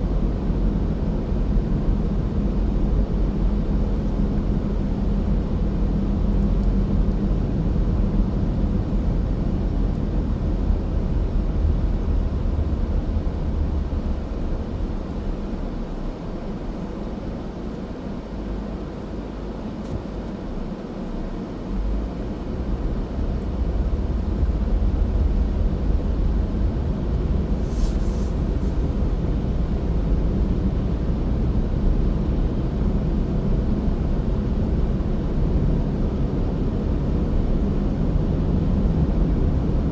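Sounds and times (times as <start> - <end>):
road and engine noise: 0.0 - 39.9.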